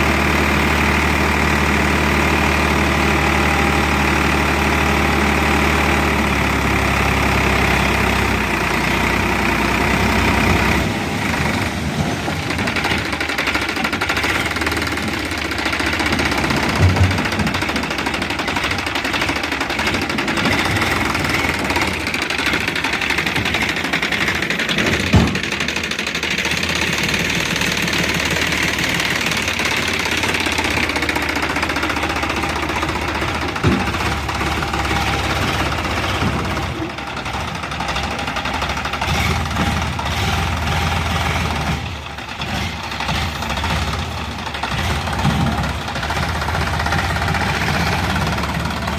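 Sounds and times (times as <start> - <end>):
tractor engine knocking: 0.0 - 48.9.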